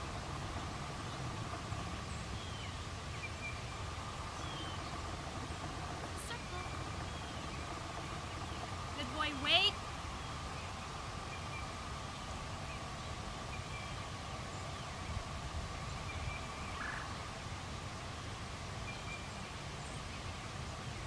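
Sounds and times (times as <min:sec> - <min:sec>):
bird calls: 0:00.0 - 0:17.4
rapid pulsed bird call: 0:00.0 - 0:17.6, 0:18.7 - 0:21.0
low rumble: 0:00.0 - 0:18.2
faint steady hum: 0:00.0 - 0:21.0.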